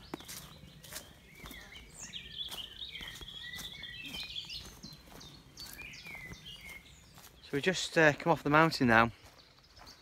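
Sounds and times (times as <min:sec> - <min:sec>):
light footsteps on dirt path: 0:00.0 - 0:10.0.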